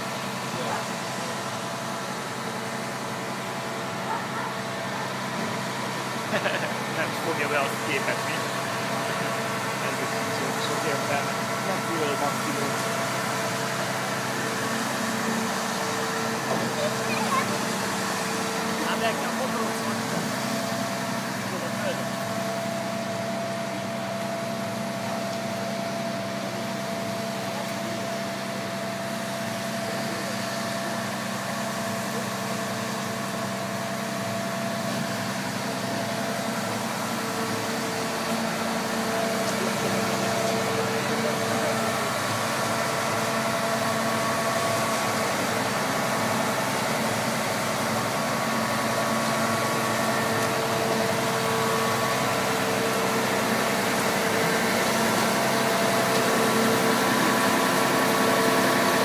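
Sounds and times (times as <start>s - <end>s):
diesel truck engines running: 0.0s - 59.0s.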